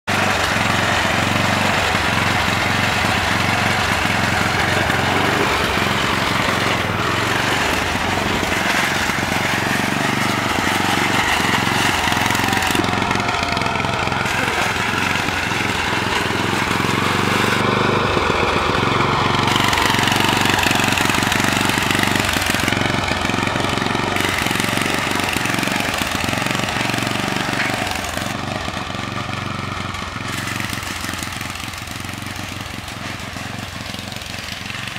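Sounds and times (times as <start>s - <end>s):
riding mower engine running: 0.0s - 34.9s.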